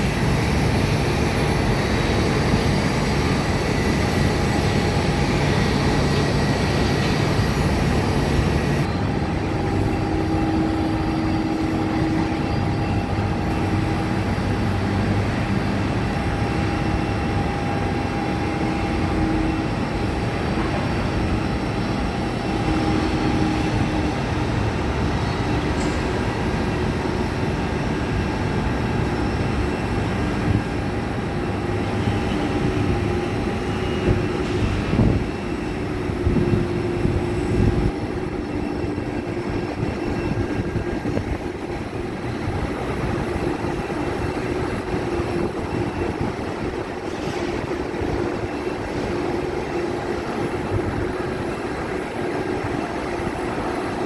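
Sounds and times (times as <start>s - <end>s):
faint engine whine: 0.0s - 54.0s
jet engines rumbling: 0.0s - 54.0s.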